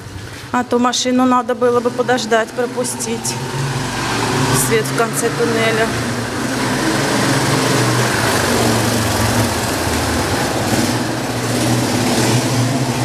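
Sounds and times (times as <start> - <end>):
small motorcycle passing: 1.4 - 13.0.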